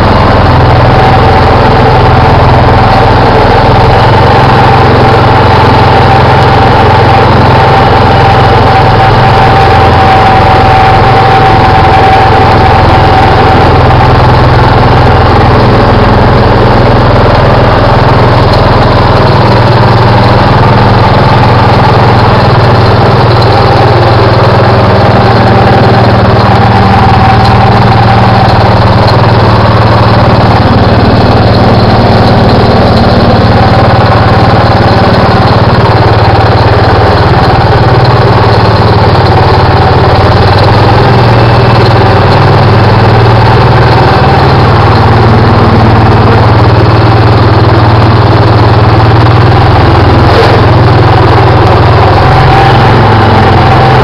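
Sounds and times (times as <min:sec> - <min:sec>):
constant higher hum: 0:00.0 - 0:54.0
garden tractor engine running: 0:00.0 - 0:54.0.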